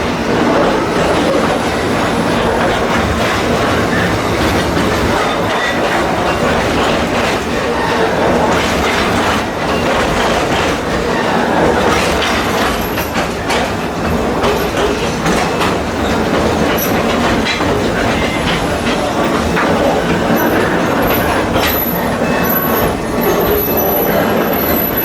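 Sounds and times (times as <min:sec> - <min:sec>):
train wheels rumbling on track: 0:00.0 - 0:25.0
wheels clicking over rail joints: 0:00.0 - 0:25.0.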